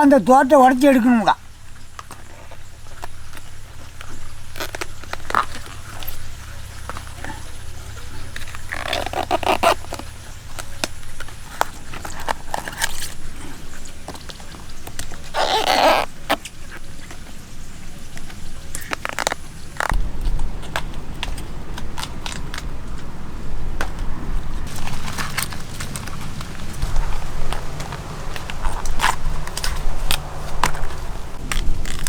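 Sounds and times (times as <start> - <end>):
banana bracts snapping: 0.0 - 32.0
bracts tearing: 0.0 - 32.0.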